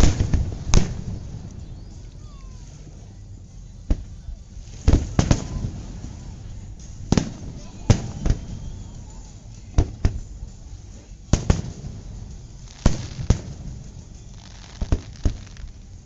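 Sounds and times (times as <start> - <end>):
fireworks bangs: 0.0 - 3.1, 3.8 - 16.0.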